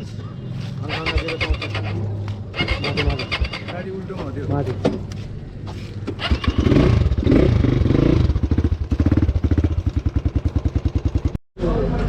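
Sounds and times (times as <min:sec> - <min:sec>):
motorcycle engine starting and revving: 0:00.0 - 0:12.0.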